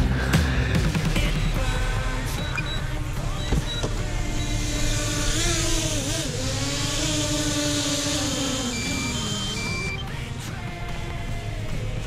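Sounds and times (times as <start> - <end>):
engine running hard: 0.0 - 12.0.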